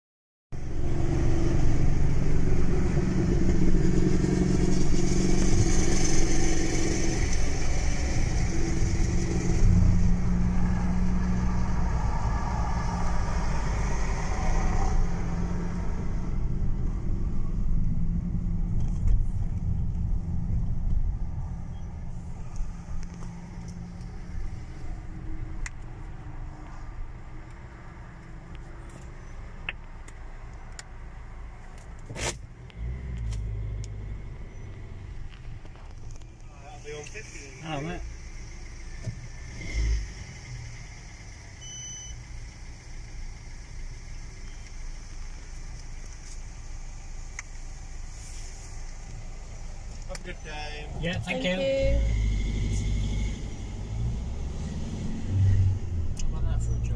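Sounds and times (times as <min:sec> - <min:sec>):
car engine and tyre rumble: 0:00.5 - 0:56.9.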